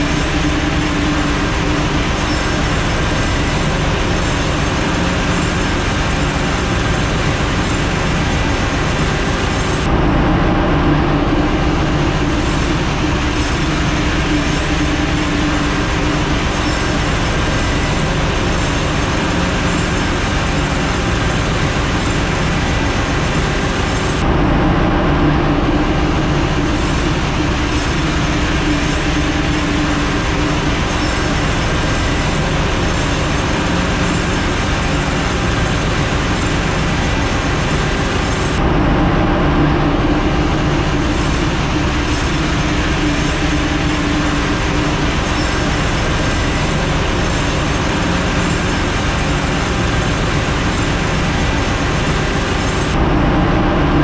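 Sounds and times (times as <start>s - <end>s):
engine-room machinery drone: 0.0s - 54.0s.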